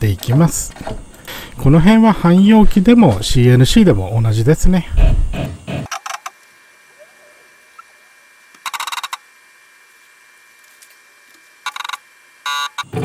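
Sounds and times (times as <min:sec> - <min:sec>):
faint electrical whine: 0:00.0 - 0:13.0.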